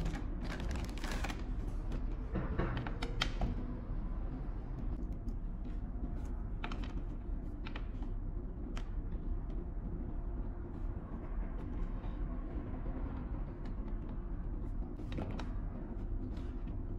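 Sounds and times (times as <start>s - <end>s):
low background rumble: 0.0s - 16.9s.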